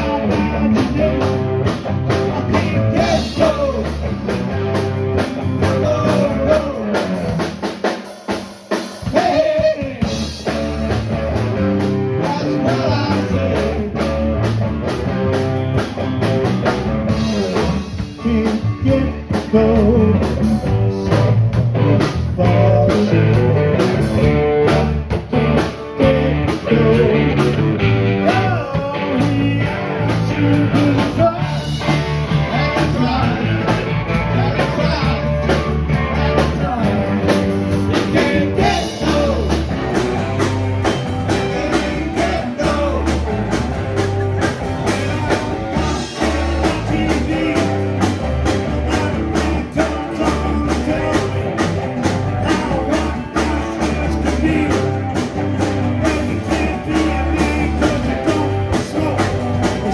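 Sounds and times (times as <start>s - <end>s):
bass guitar: 0.0s - 59.9s
drums keeping a steady beat: 0.0s - 59.9s
electric guitar: 0.0s - 59.9s.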